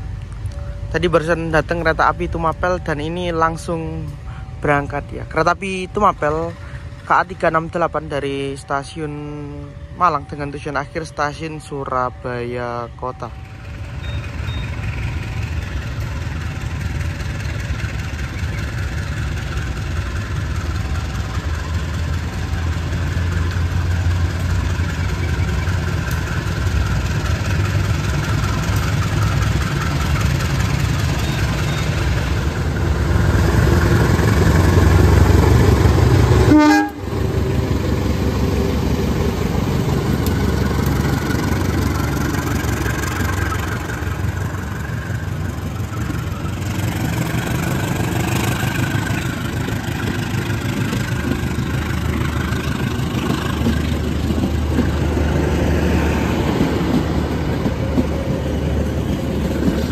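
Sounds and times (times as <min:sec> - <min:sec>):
locomotive engine droning: 0:00.0 - 0:59.9
train carriages rolling past: 0:00.0 - 0:59.9.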